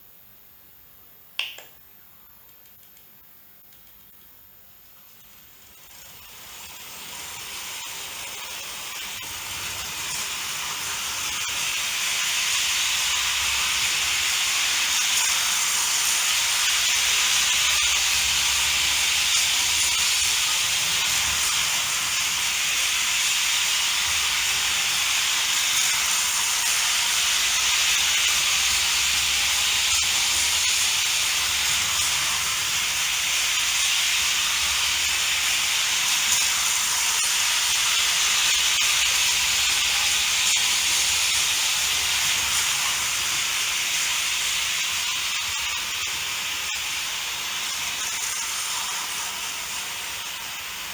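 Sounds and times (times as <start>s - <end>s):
model train running on track: 6.5s - 50.9s.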